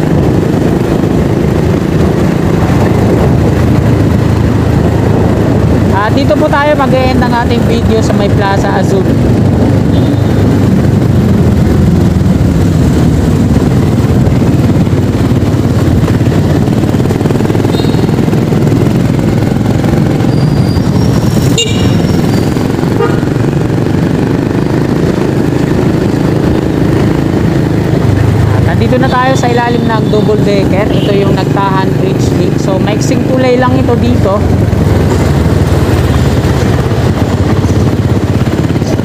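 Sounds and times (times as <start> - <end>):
motor scooter engine running: 0.0 - 39.0
road and wind noise: 0.0 - 39.0.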